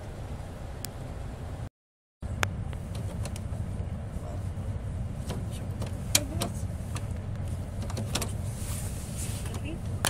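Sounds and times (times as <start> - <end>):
train interior rumble: 0.0 - 10.0.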